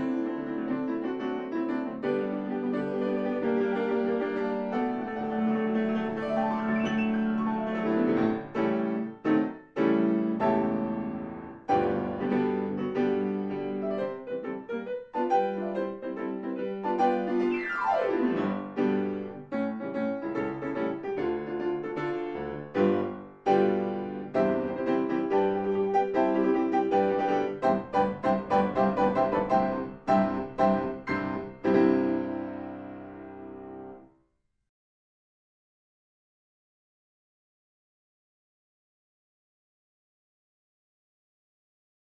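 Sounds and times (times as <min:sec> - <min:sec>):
lively piano music: 0:00.0 - 0:34.1.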